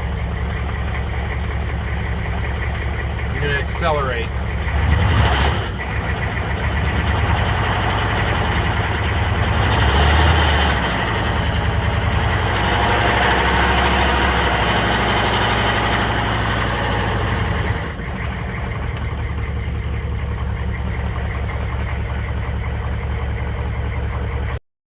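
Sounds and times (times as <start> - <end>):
misfiring diesel engine revving: 0.0 - 24.6.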